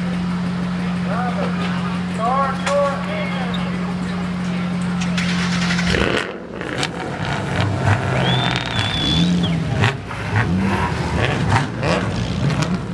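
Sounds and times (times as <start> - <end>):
race car engines idling and revving: 0.0 - 12.9.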